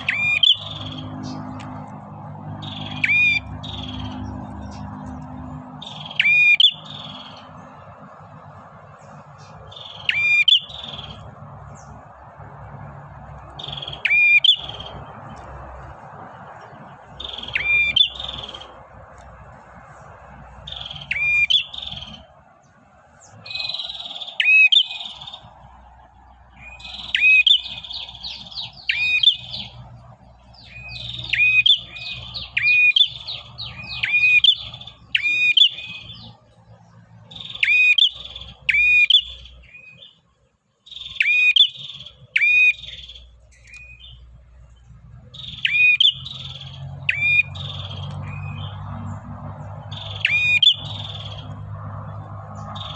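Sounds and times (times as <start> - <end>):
bird whistles and buzzy trill: 0.0 - 7.6, 9.0 - 12.0, 13.4 - 15.5, 16.5 - 18.8, 19.9 - 22.4, 23.2 - 36.4, 37.2 - 40.2, 40.8 - 52.9.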